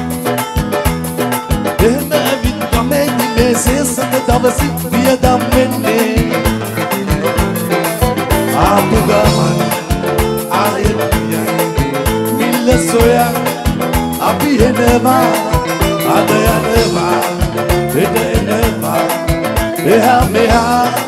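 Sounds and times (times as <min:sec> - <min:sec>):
live band playing upbeat song: 0:00.0 - 0:21.0
steady drum beat: 0:00.0 - 0:21.0
man singing: 0:01.8 - 0:07.4, 0:08.4 - 0:21.0.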